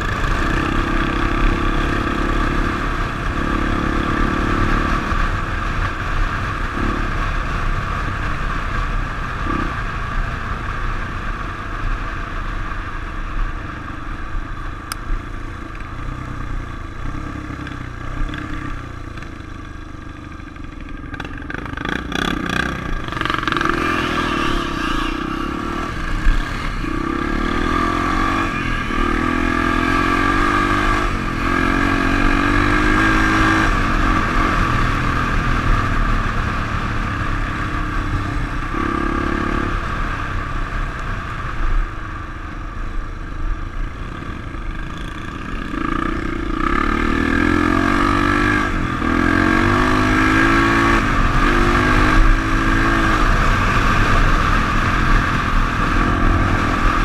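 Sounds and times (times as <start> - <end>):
motorcycle engine accelerating: 0.0 - 57.0
wind rumble: 0.0 - 57.0.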